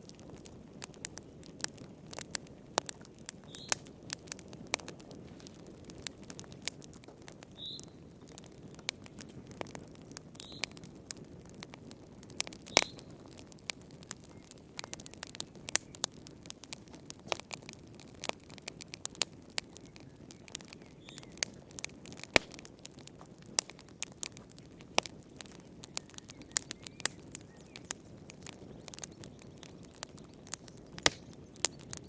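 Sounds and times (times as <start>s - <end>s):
wood fire crackling in fireplace: 0.0s - 32.0s.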